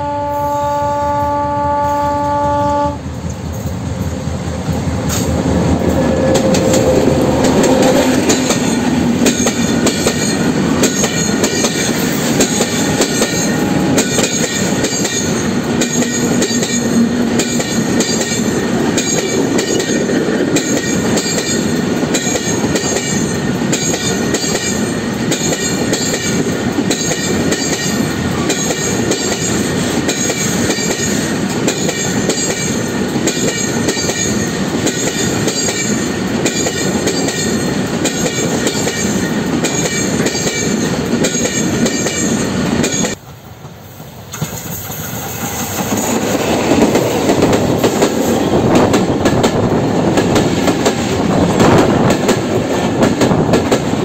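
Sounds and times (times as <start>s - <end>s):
train wheels clattering over rail joints: 4.6s - 43.2s, 44.3s - 54.0s.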